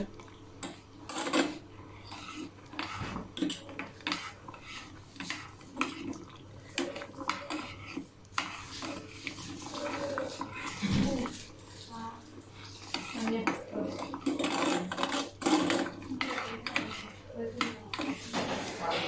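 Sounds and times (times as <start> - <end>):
spoon scraping a saucepan: 0.0 - 19.0.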